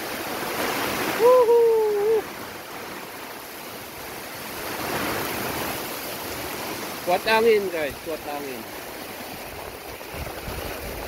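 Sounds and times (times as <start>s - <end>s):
heavy rain pouring: 0.0s - 11.0s
strong gusting wind: 0.0s - 11.0s.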